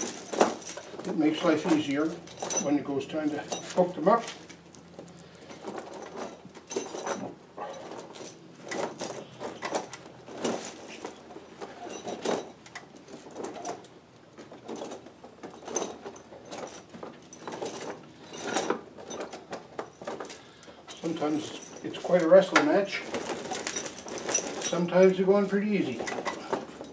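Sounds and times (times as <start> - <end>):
tire chains clinking: 0.0 - 26.9.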